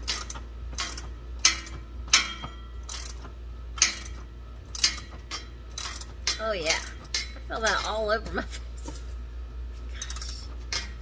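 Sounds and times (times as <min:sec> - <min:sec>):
ratchet clicking: 0:00.0 - 0:08.0, 0:10.0 - 0:11.0.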